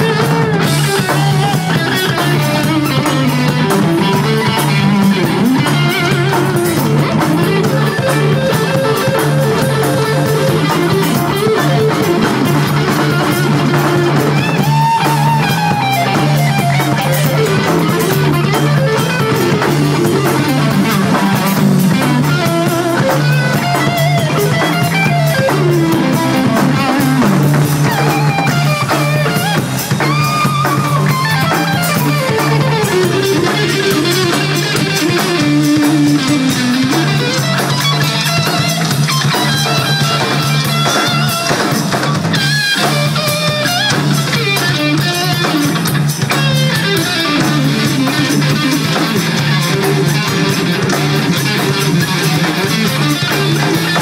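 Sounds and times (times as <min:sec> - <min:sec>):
drum kit: 0:00.0 - 0:54.0
electric guitar lead line: 0:00.0 - 0:54.0.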